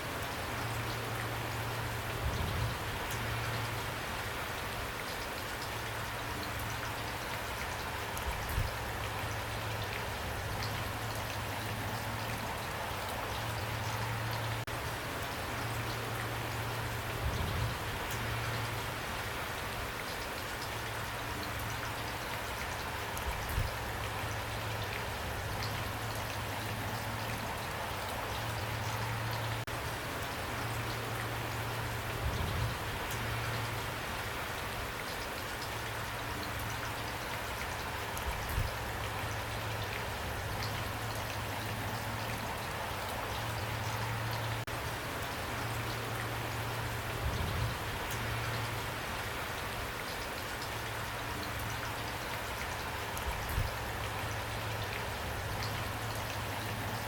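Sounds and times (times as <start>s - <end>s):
raindrops ticking on a surface: 0.0s - 57.0s
steady rain falling: 0.0s - 57.0s.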